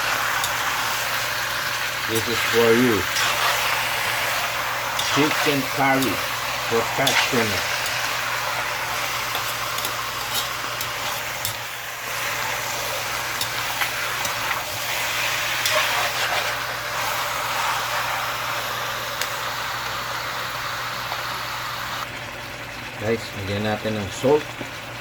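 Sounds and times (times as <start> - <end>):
chicken sizzling in a pan: 0.0 - 24.6.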